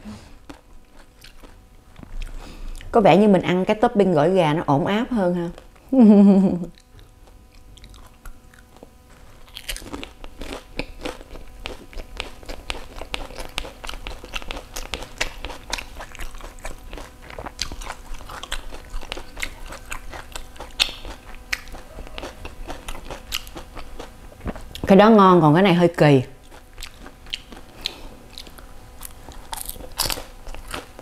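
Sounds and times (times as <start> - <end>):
crunchy bite and chewing: 0.4 - 2.9, 6.7 - 24.9, 26.4 - 31.0.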